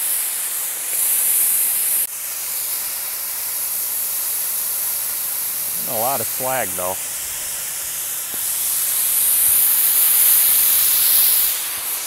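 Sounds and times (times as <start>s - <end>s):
cutting torch hissing: 0.1s - 12.0s.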